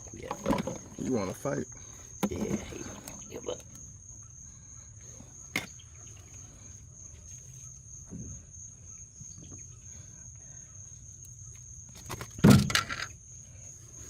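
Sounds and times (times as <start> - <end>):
crickets chirping drone: 0.0 - 14.0.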